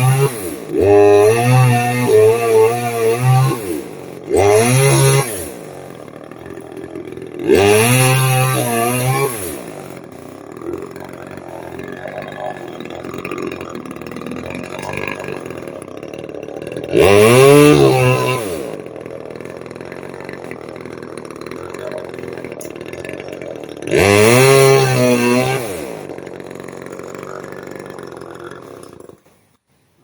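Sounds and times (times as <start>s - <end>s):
chainsaw idling and revving: 0.0s - 29.6s.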